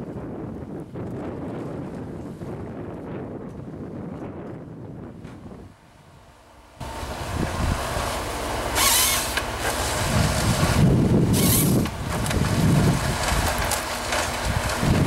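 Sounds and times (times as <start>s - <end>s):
wind buffeting microphone: 0.0s - 15.0s
forestry machine running: 2.7s - 15.0s.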